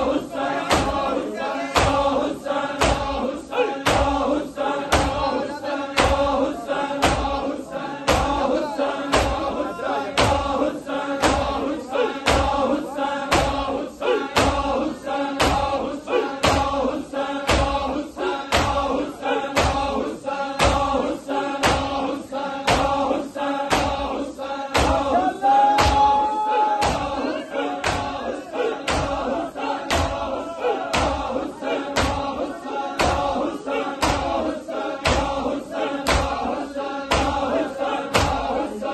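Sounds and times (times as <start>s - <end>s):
crowd of men chanting: 0.0s - 38.9s.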